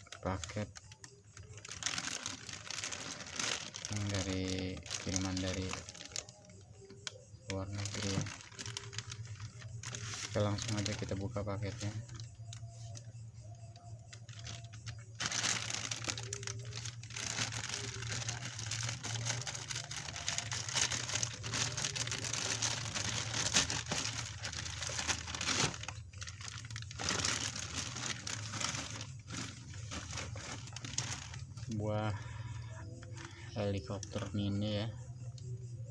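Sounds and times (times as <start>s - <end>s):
packaging torn and crinkled: 0.0s - 13.0s, 14.2s - 31.7s.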